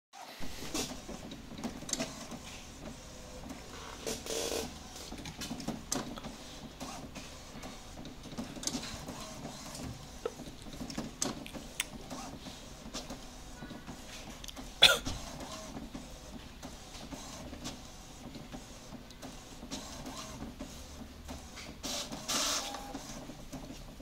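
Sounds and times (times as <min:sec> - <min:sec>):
inkjet printer printing: 0:00.4 - 0:24.0.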